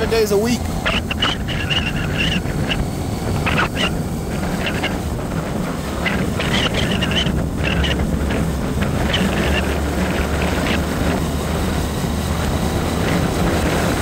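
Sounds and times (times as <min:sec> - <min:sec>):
vehicle road rumble: 0:00.0 - 0:14.0
wind noise: 0:00.0 - 0:14.0.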